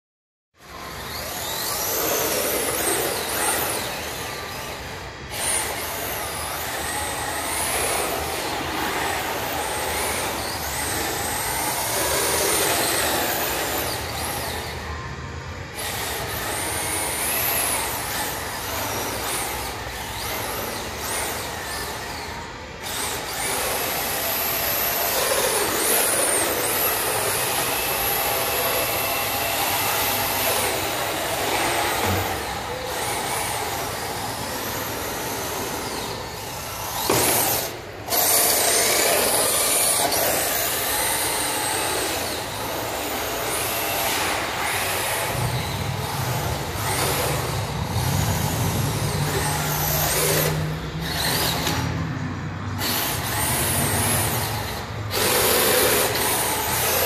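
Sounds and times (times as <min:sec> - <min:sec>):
toy truck motor whining: 0:00.6 - 0:57.0.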